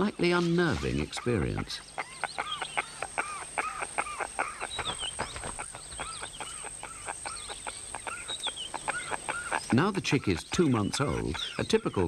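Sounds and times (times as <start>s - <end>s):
short rising and falling bird calls: 1.2s - 12.0s.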